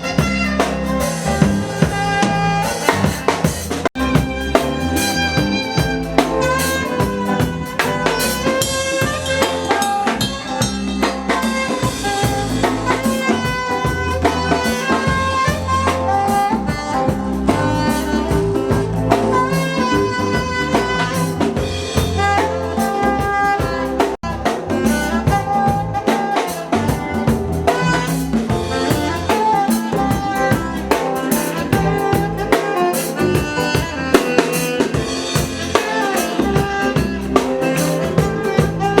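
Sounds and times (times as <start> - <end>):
drum kit beat: 0.0 - 39.0
live band playing: 0.0 - 39.0.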